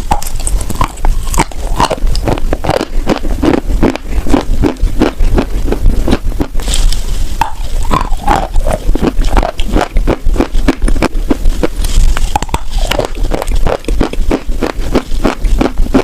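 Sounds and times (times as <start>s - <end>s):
chewing and crunching chalk: 0.0s - 16.0s
low hum: 0.0s - 16.0s.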